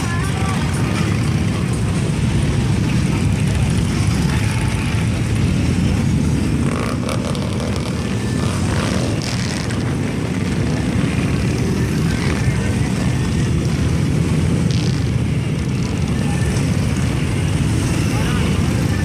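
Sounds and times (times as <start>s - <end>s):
many motorcycle engines droning: 0.0s - 19.0s.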